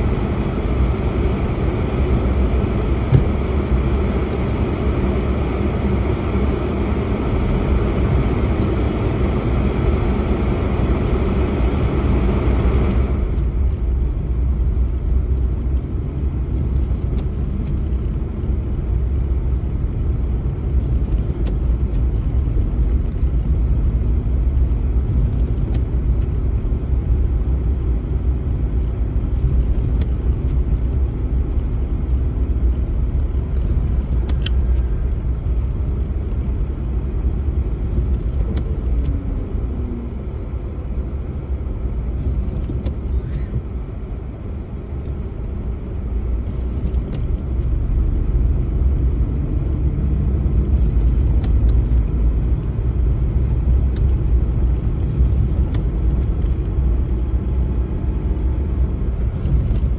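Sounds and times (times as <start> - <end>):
car interior rumble: 0.0 - 59.9.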